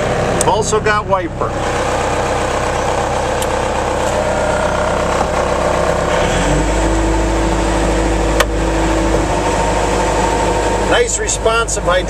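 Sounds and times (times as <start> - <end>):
diesel engine running: 0.0 - 12.0
hydraulic whine: 1.4 - 12.0.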